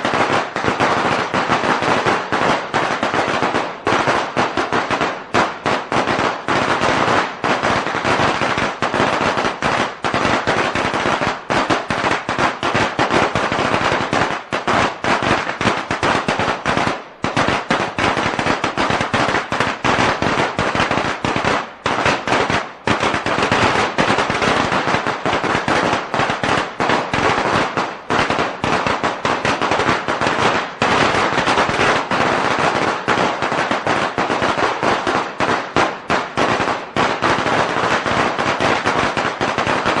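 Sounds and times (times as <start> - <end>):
firecrackers going off: 0.0 - 40.0.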